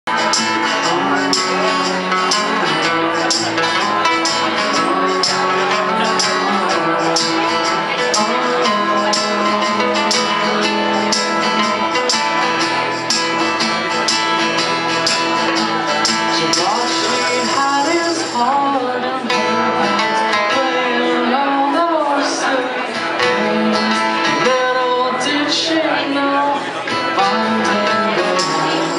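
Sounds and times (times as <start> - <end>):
acoustic guitars playing: 0.1 - 28.9.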